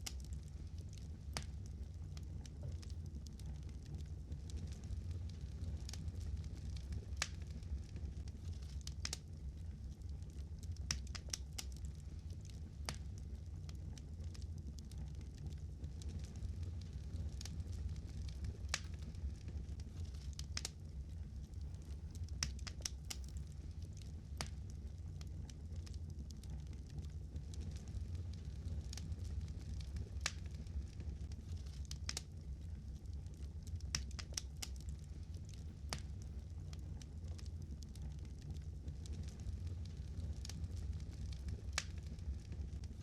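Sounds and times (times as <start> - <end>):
fire crackling and popping: 0.0 - 43.0
low steady rumble: 0.0 - 43.0.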